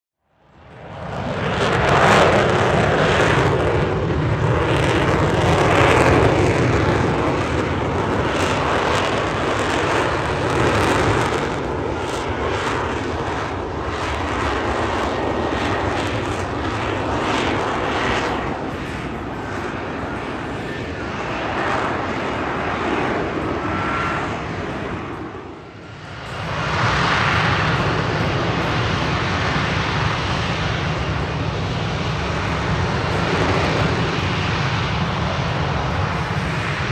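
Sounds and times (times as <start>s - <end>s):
aircraft engine noise: 0.3s - 36.9s.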